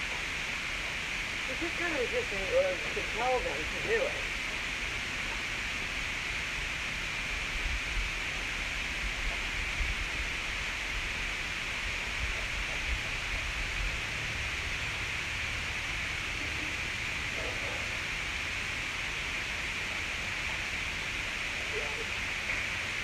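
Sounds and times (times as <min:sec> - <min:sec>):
background hiss: 0:00.0 - 0:23.0.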